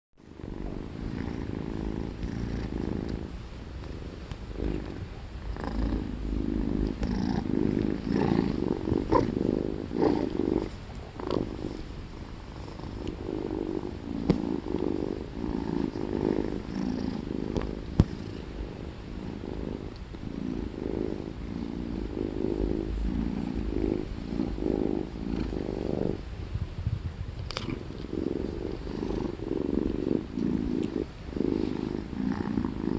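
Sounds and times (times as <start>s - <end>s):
cat purring: 0.2s - 32.9s.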